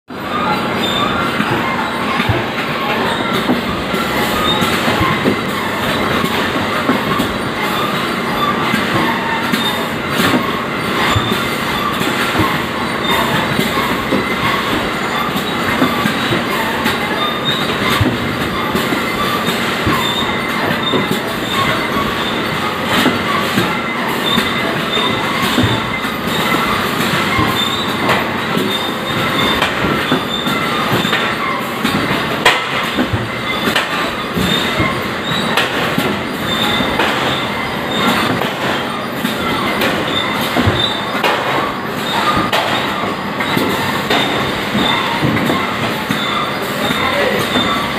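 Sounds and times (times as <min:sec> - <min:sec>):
conveyors clattering: 0:00.1 - 0:47.9.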